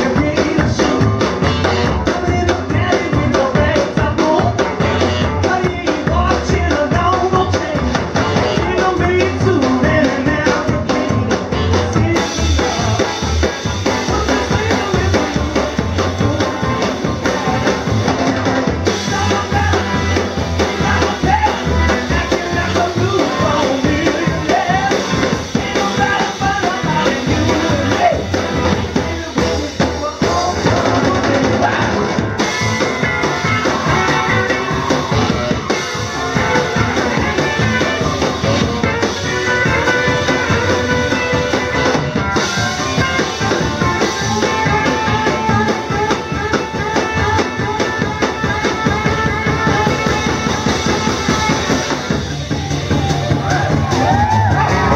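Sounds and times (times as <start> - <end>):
drum kit: 0.0 - 54.9
keyboards: 0.0 - 54.9
saxophone lead: 0.0 - 54.9
upright bass: 0.0 - 54.9.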